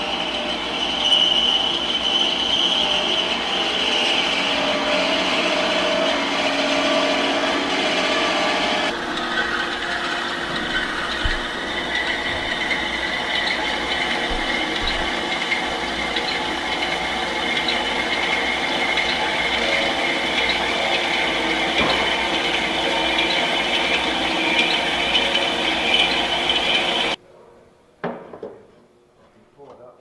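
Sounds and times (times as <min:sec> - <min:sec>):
metal-cutting bandsaw running: 0:00.0 - 0:27.2.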